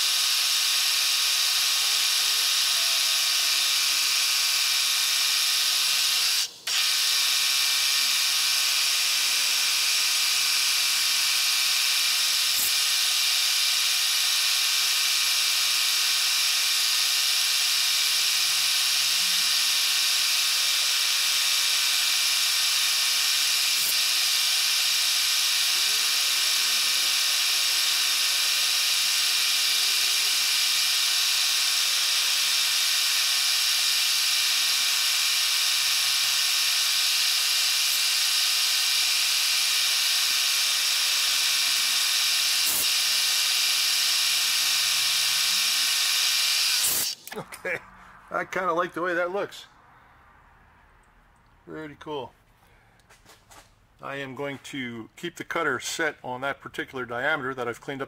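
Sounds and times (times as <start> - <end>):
milling machine cutting metal: 0.0 - 47.3.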